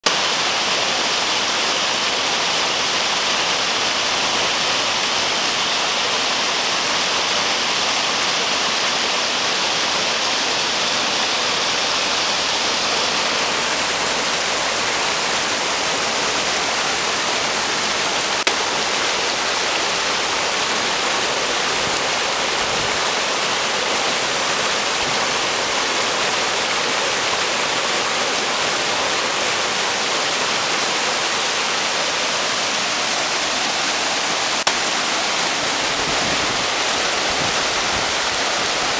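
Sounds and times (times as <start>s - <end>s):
creek rushing over boulders: 0.0s - 38.9s.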